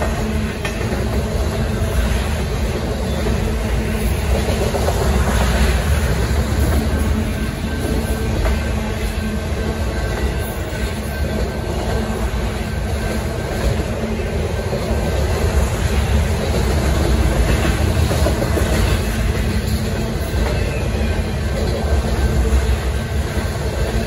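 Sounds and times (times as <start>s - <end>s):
train wheels clattering over rails: 0.0s - 24.0s.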